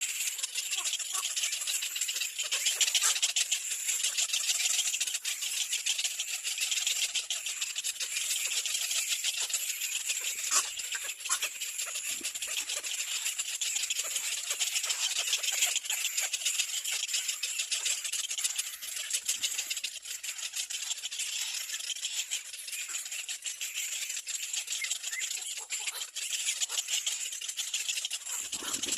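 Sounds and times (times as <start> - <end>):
animal chorus of rattling clicks: 0.0 - 28.9.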